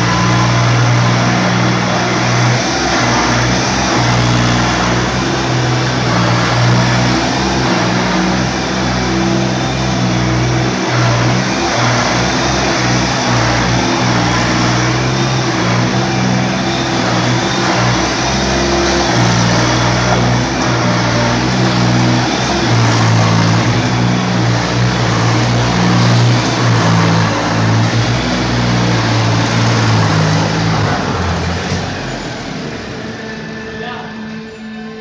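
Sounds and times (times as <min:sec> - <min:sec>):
tractor diesel engine running: 0:00.0 - 0:34.8.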